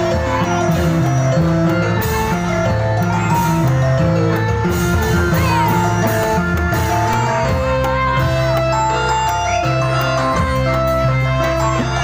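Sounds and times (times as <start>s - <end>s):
melodic music with bass: 0.0s - 12.0s.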